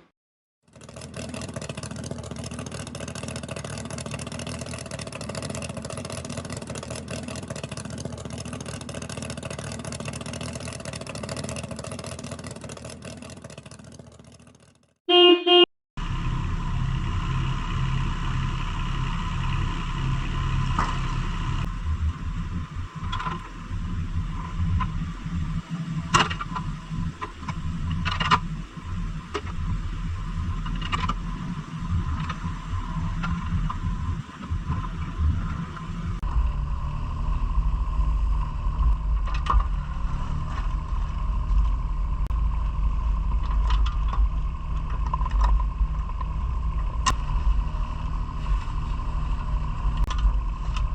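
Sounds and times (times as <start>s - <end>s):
engine running: 0.8s - 14.3s, 16.0s - 50.9s.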